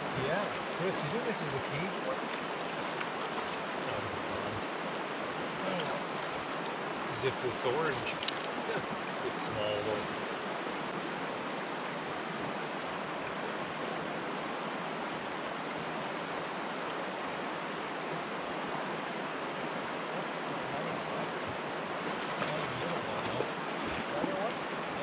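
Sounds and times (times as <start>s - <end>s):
river rushing over stones: 0.0s - 25.0s.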